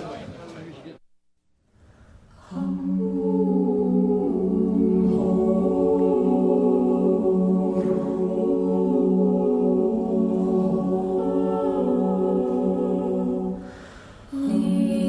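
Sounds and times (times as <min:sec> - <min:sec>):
choir singing sustained chord: 0:02.4 - 0:15.0.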